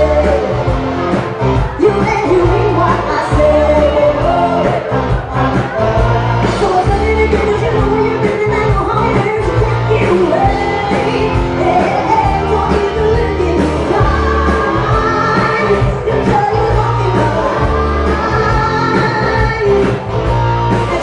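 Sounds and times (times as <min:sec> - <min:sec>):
woman singing into a microphone: 0:00.0 - 0:00.7, 0:01.8 - 0:20.0, 0:20.8 - 0:21.0
bass guitar: 0:00.0 - 0:21.0
drums: 0:00.0 - 0:21.0.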